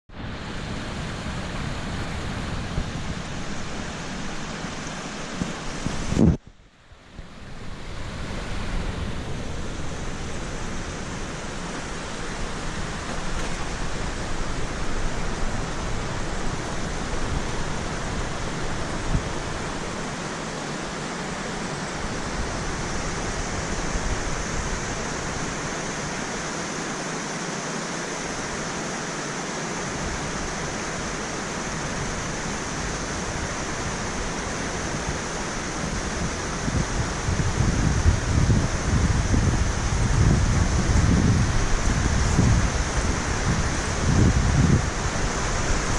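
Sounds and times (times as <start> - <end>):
waterfall rushing water: 0.1 - 45.9.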